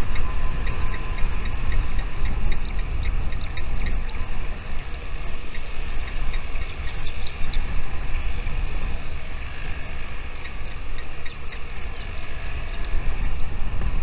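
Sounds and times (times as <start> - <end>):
small birds chirping: 0.0 - 13.9
wind rumble on microphone: 0.0 - 14.0.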